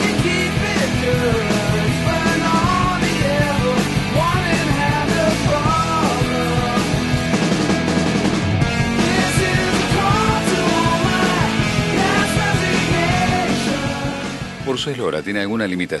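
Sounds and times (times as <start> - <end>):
rock music with drum beat: 0.0 - 16.0.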